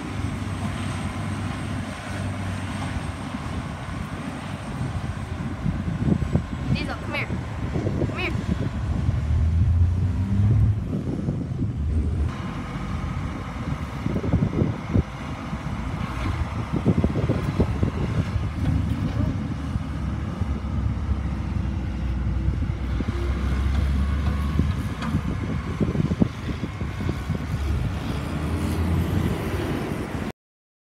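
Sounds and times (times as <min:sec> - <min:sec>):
tractor diesel engine under load: 0:00.0 - 0:30.3.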